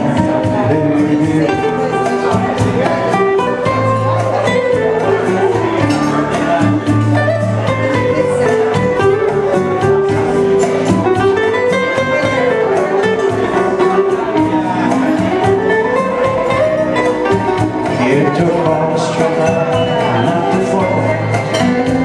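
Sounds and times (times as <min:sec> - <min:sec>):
classical guitar plucked: 0:00.0 - 0:22.0
electronic keyboard bass notes: 0:00.0 - 0:22.0.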